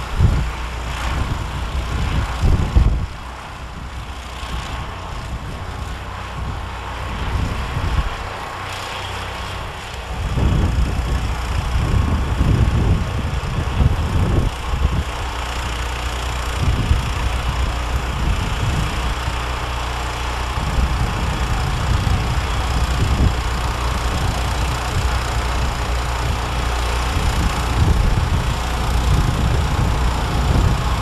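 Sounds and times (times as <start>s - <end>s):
snowblower engine running: 0.0s - 31.0s.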